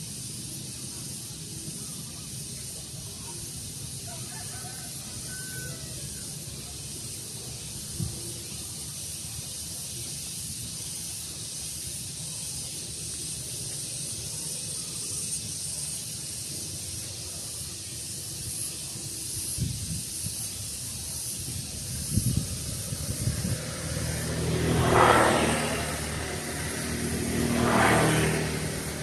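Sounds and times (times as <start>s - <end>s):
steady high-pitched hiss: 0.0s - 29.0s.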